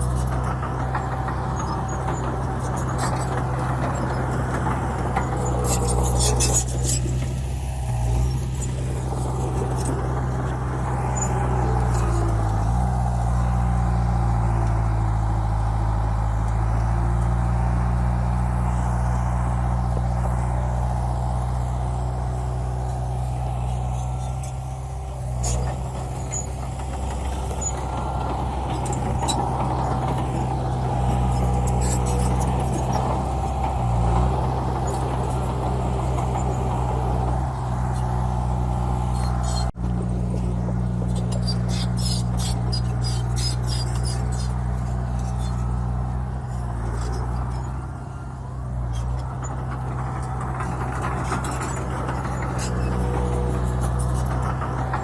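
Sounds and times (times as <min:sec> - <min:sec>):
heavy diesel truck engine running: 0:00.0 - 0:55.0.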